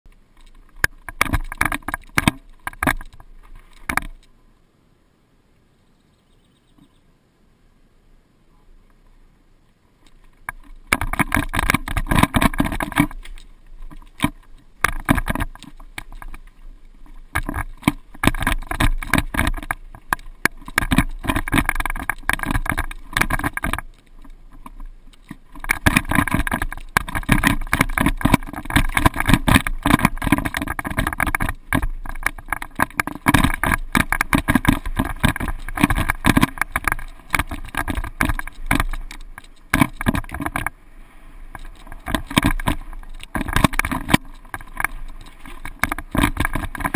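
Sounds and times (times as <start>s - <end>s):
mountain bike rattling over bumps: 0.2s - 4.3s, 10.1s - 40.8s, 41.4s - 46.9s.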